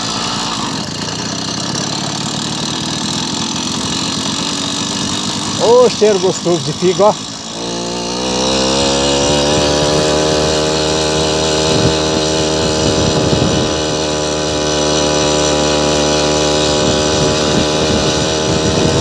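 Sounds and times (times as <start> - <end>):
motorized bicycle engine revving: 0.0 - 19.0.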